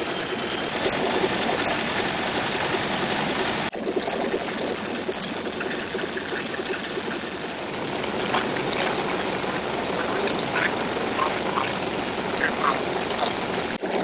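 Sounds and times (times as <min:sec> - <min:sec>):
radial aircraft engines idling: 0:00.0 - 0:03.7, 0:05.1 - 0:13.8.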